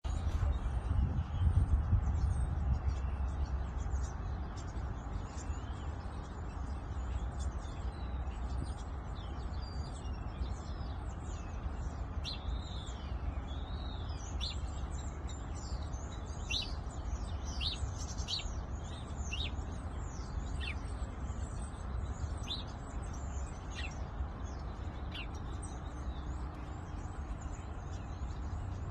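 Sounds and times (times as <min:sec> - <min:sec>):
songbirds chirping: 0:00.0 - 0:28.9
steady low rumble: 0:00.0 - 0:28.9.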